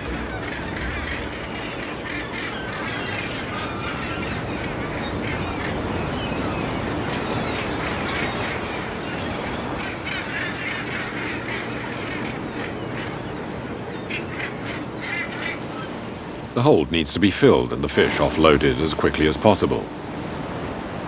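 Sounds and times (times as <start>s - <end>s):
gulls calling: 0.0s - 21.0s
steady background rush: 0.0s - 21.0s.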